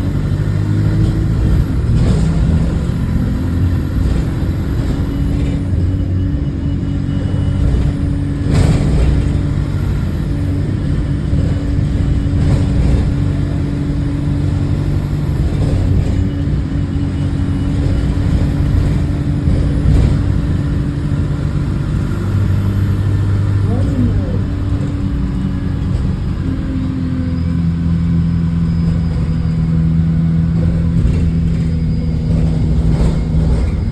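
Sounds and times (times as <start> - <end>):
bus diesel engine running: 0.0 - 33.9.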